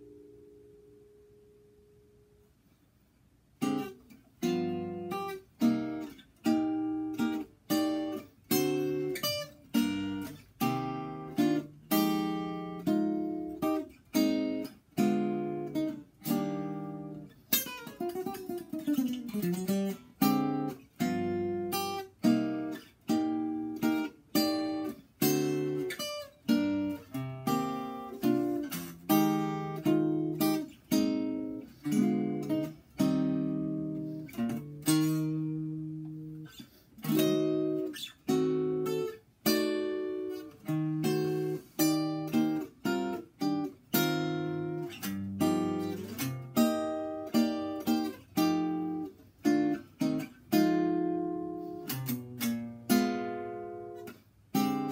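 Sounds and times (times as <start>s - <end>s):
acoustic guitar chords: 0.0s - 54.9s.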